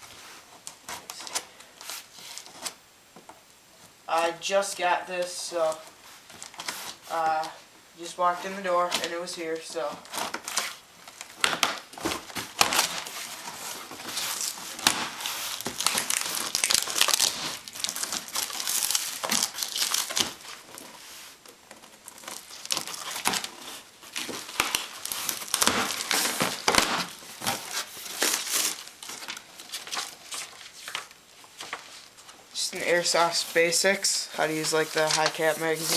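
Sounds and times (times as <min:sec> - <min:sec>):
plastic and cardboard crinkling: 0:05.6 - 0:07.6, 0:08.4 - 0:35.9.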